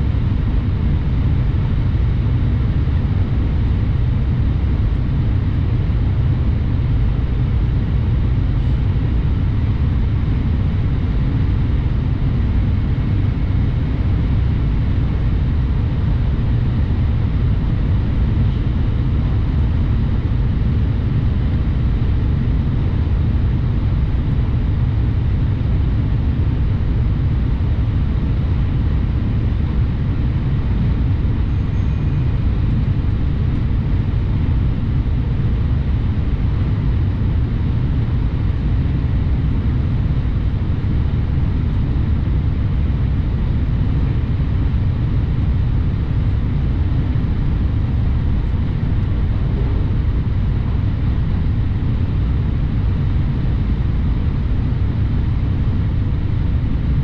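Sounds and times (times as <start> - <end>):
train running low rumble: 0.0 - 57.0.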